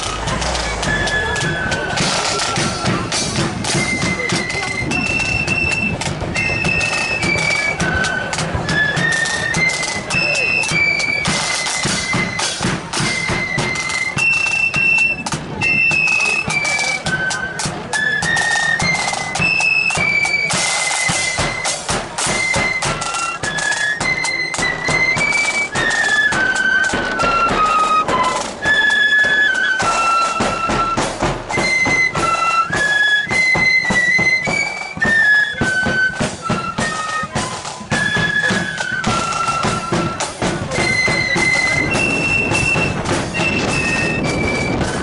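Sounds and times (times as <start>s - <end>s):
flutes playing melody: 0.0s - 45.0s
marching drums: 0.0s - 45.0s.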